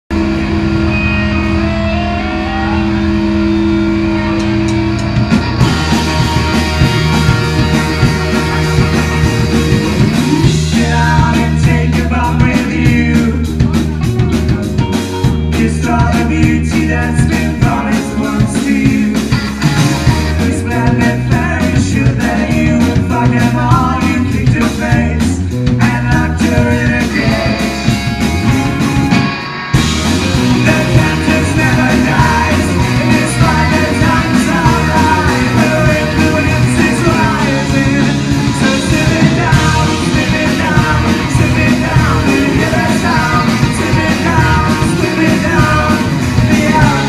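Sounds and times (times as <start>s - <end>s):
live blues-rock band: 0.1s - 47.0s.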